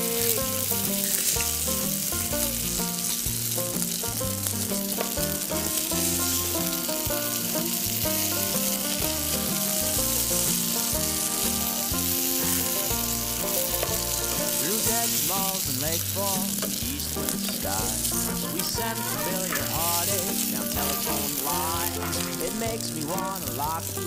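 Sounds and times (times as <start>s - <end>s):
egg sizzling in oil: 0.0s - 24.0s
instrumental background music: 0.0s - 24.0s.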